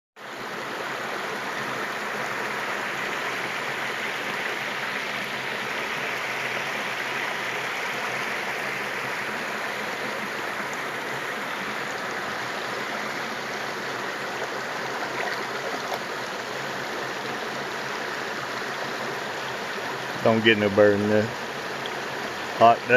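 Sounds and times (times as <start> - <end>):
water pouring over waterfall: 0.2 - 22.9.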